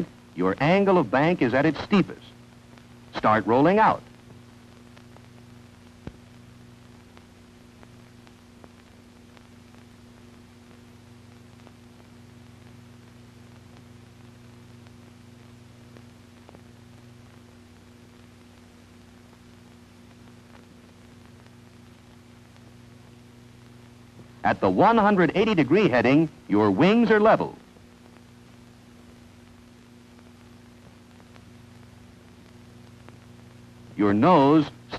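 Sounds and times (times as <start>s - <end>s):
low hum and hiss: 0.0s - 34.9s.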